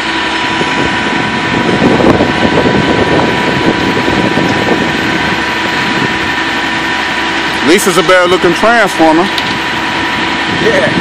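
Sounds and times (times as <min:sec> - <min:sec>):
constant whine: 0:00.0 - 0:11.0
truck engine running: 0:00.0 - 0:11.0.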